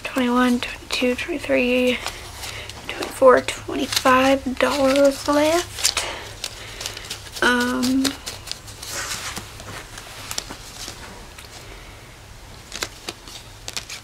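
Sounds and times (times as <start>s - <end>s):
paper rustling: 0.2s - 11.7s, 12.5s - 14.0s.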